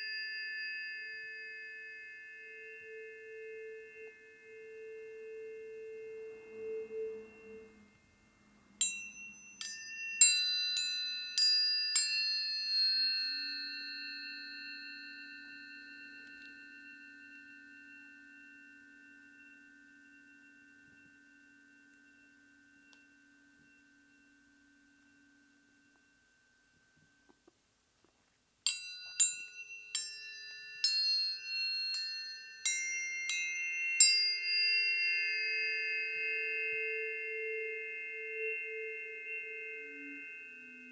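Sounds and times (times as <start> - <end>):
tuning forks struck and ringing: 0.0 - 27.5, 28.7 - 40.9.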